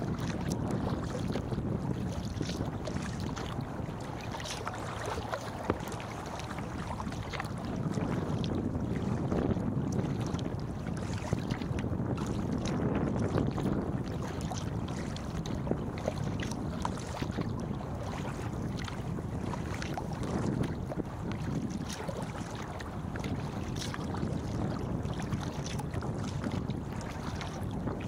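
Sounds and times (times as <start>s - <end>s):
paddle splashes and drips: 0.0s - 28.0s
wind buffeting microphone: 0.0s - 28.0s.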